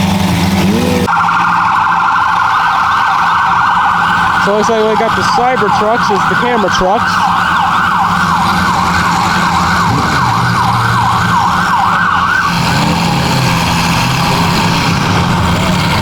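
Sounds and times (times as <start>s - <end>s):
vehicle engines running: 0.0s - 16.0s
siren yelping: 0.6s - 15.9s.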